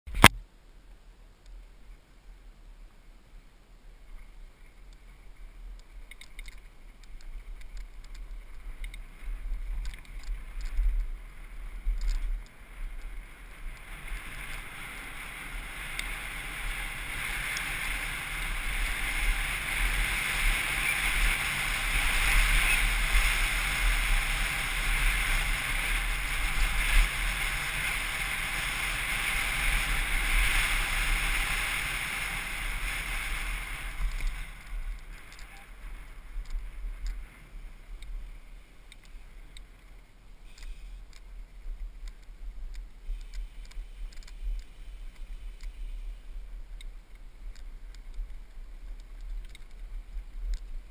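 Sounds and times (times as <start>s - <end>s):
wind rushing over camera: 0.1s - 50.9s.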